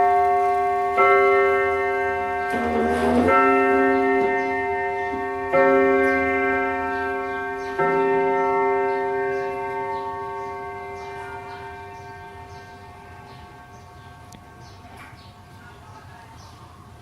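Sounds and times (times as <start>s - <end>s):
clock striking a gong: 0.0s - 13.8s.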